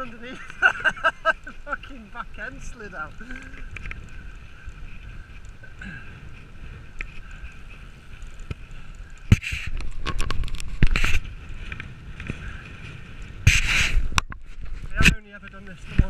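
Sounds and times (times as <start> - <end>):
bike tyres rumbling on grass: 0.0 - 16.0
bike knocking and rattling: 2.3 - 16.0.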